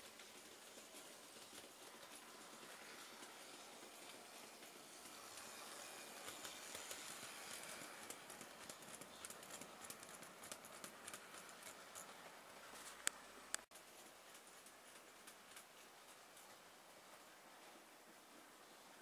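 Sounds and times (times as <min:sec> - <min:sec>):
wheels clicking on rails: 0:00.0 - 0:16.6
model train rolling on track: 0:00.0 - 0:17.3.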